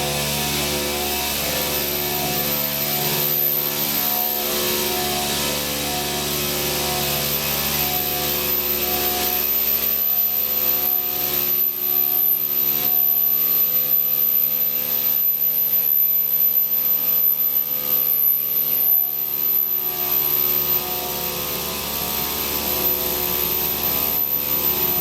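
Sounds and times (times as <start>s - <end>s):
circular saw machine running: 0.0s - 25.0s.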